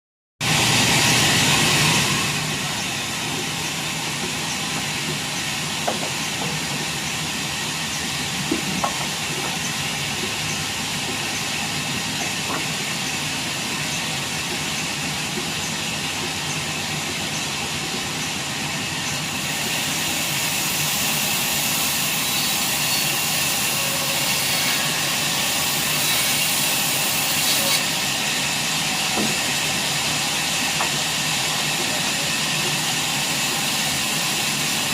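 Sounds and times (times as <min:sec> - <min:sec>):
sawmill machinery rushing noise: 0:00.4 - 0:34.9.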